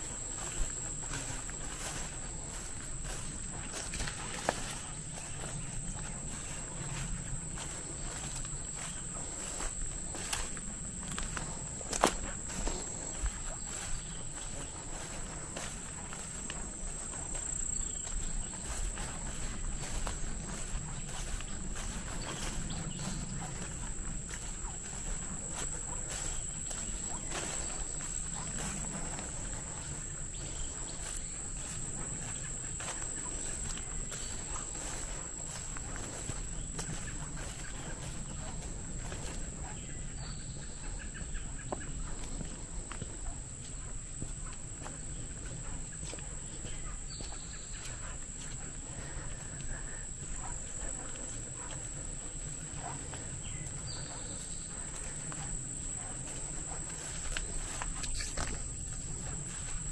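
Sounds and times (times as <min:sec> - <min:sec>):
footsteps swishing through grass: 0:00.0 - 0:59.9
high-pitched insect chorus: 0:00.0 - 0:59.9.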